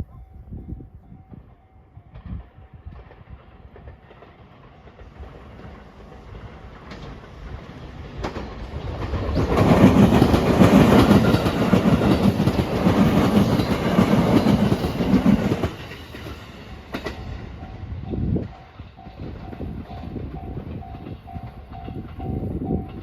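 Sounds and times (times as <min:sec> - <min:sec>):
passenger train passing: 0:00.0 - 0:23.0
train wheels clattering over rails: 0:02.1 - 0:23.0.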